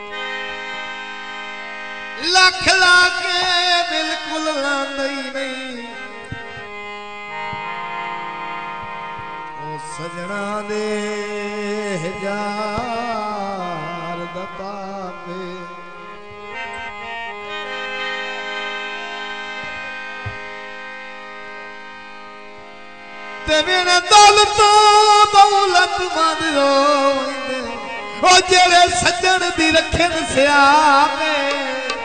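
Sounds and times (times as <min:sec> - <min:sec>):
harmonium chords: 0:00.0 - 0:32.0.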